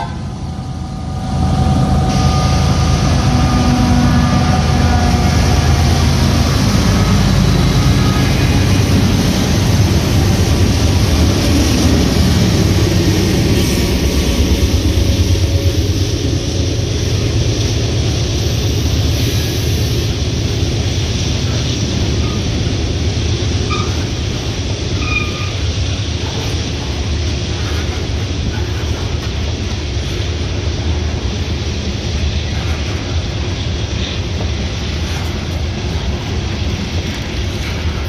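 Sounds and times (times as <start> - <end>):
diesel locomotive passing: 0.0 - 38.0
train wheels clattering on rails: 0.0 - 38.0.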